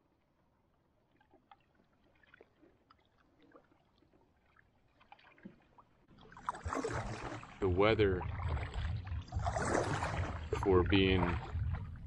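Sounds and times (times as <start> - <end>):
water drips from canoe paddle: 0.0 - 12.0.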